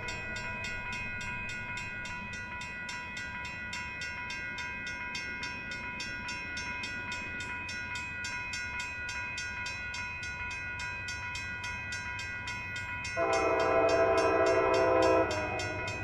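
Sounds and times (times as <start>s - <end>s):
railroad crossing bell ringing: 0.0s - 16.0s.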